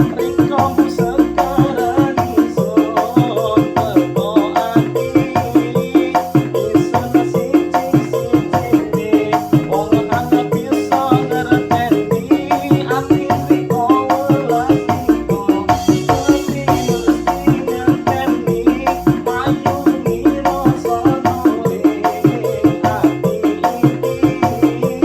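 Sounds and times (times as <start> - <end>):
electronic keyboard melody: 0.0 - 25.0
fast drum and shaker beat: 0.0 - 25.0.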